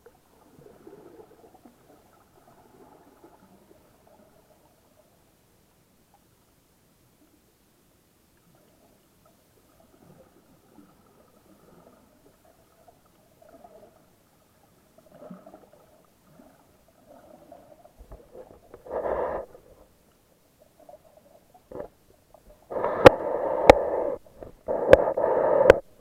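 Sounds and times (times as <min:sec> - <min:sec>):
underwater gurgling: 0:00.0 - 0:05.4, 0:08.4 - 0:26.0.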